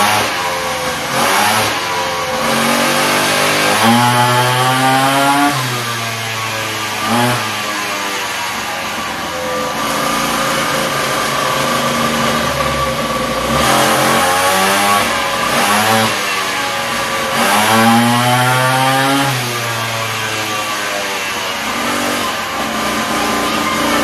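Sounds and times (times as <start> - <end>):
small engine revving: 0.0 - 24.0.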